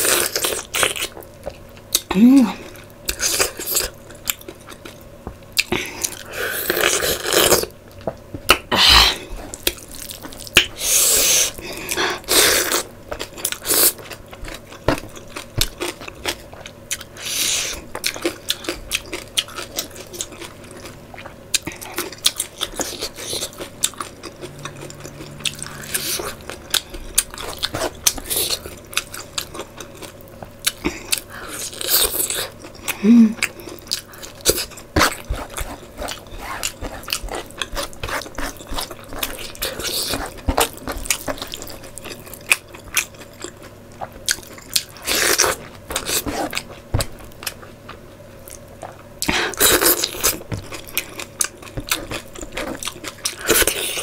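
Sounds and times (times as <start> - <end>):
person chewing meat: 0.0 - 54.0.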